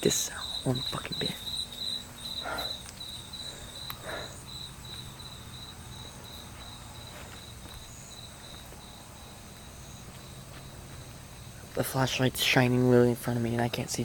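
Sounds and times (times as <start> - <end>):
cricket chirping: 0.0 - 14.0
steady low hum: 0.0 - 14.0.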